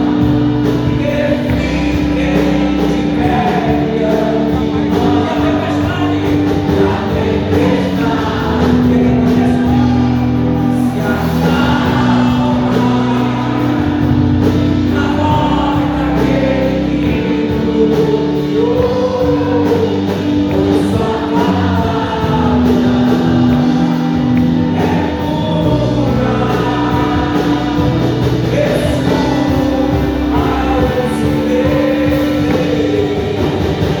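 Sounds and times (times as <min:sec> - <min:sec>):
bass line: 0:00.0 - 0:34.0
choir singing gospel: 0:00.0 - 0:34.0
held keyboard chords: 0:00.0 - 0:34.0.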